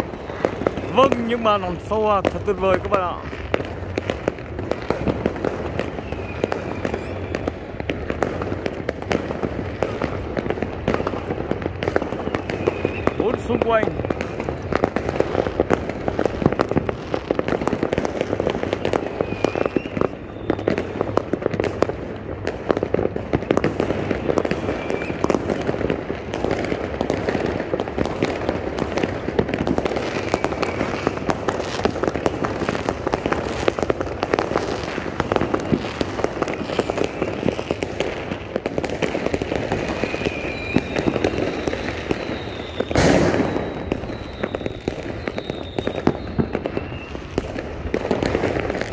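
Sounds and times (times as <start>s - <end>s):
firework whistling glides: 0.0s - 22.1s, 23.2s - 48.9s
fireworks bursting and crackling: 0.0s - 48.9s.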